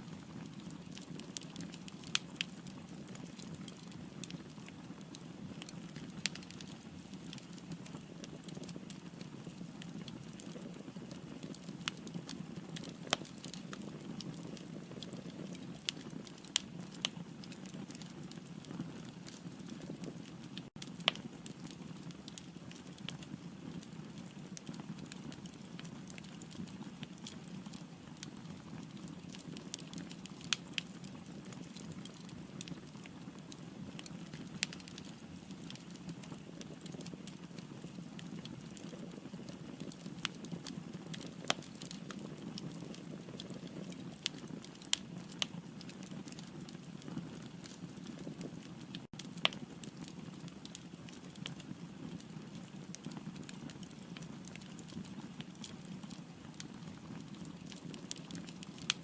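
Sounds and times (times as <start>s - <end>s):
firewood burning and crackling: 0.0s - 59.0s.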